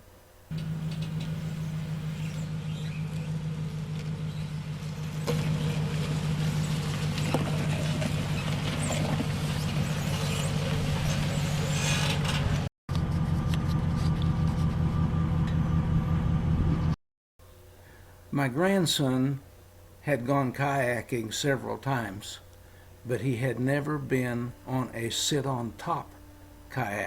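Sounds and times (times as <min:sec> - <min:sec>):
vehicle engine hum: 0:00.5 - 0:17.7, 0:22.5 - 0:27.0.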